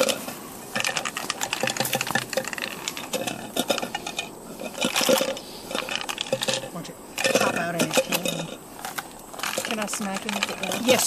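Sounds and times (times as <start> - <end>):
key rattling in plastic pipe: 0.8 - 11.0.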